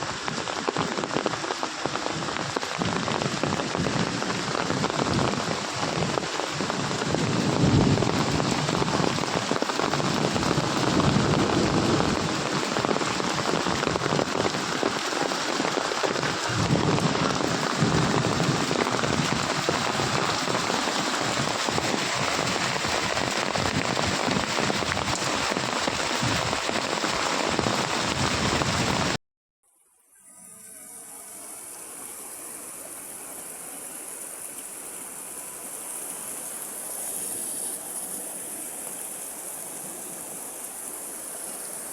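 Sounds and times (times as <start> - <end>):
flowing water rushing: 0.0 - 29.2, 30.3 - 41.9
heavy rain downpour: 0.0 - 29.2, 31.2 - 41.9.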